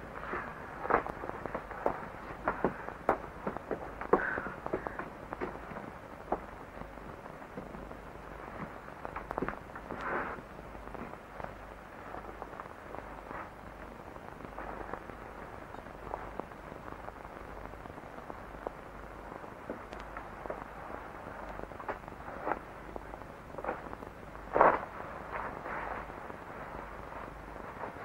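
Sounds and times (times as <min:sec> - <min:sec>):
crackles and clicks: 0:00.0 - 0:28.0
steady hiss: 0:00.0 - 0:28.0.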